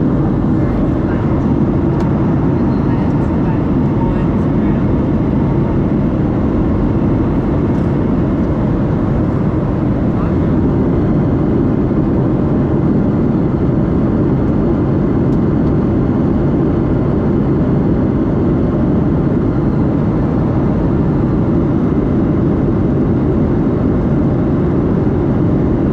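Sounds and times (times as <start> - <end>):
jet engine rumble in cabin: 0.0 - 25.9.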